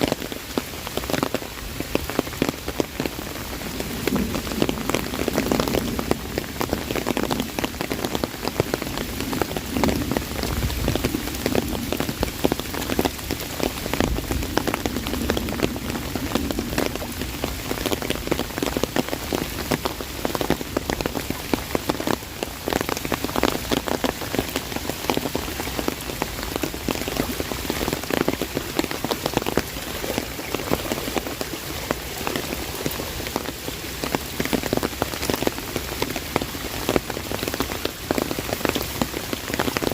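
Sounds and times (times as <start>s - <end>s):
rain drumming on an umbrella: 0.0s - 39.9s
rain falling all around: 0.0s - 39.9s.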